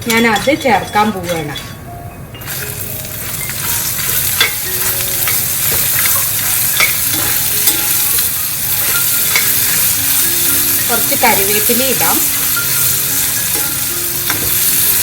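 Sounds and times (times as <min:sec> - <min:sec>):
onions sizzling in oil: 0:02.4 - 0:15.0.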